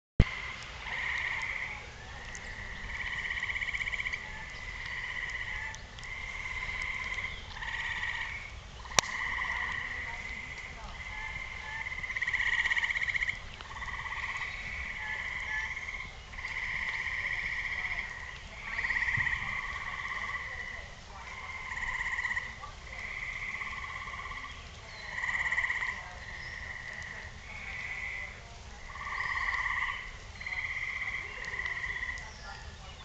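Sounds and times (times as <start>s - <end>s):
frogs calling in trills: 0.2s - 33.0s.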